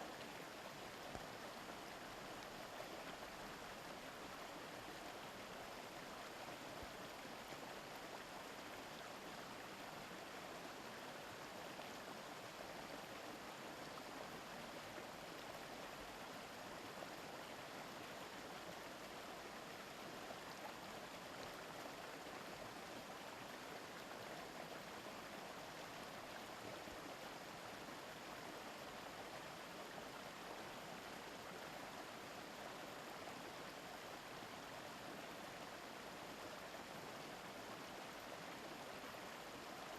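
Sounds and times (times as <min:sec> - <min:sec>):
river murmuring over rocks: 0:00.0 - 0:39.9.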